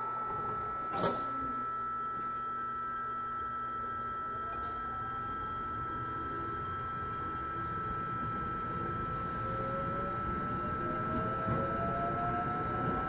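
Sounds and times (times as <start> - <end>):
high-pitched electrical whine: 0.0 - 13.0.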